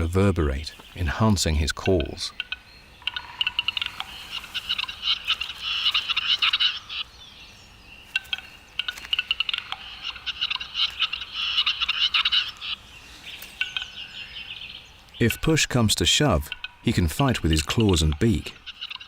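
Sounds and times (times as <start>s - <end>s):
grouse clicking and rattling calls: 0.0s - 7.1s, 8.0s - 19.0s.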